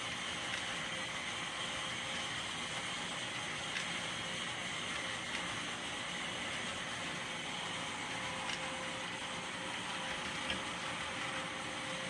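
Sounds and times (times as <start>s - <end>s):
model train cars rolling on track: 0.0s - 12.0s.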